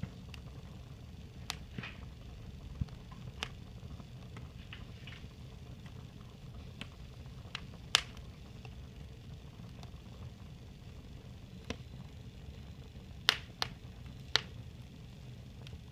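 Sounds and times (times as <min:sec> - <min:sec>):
fire crackling: 0:00.0 - 0:15.9.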